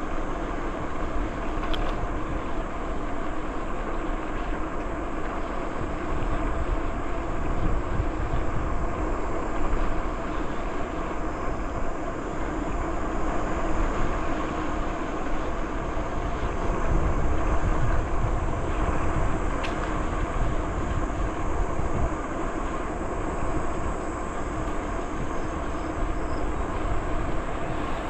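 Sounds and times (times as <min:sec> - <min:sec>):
bicycle tyres rolling: 0:00.1 - 0:28.0
wind buffeting microphone: 0:04.1 - 0:28.0.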